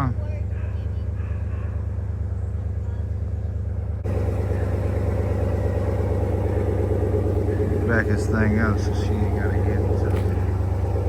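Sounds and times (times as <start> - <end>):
truck engine idling: 1.0 - 11.0.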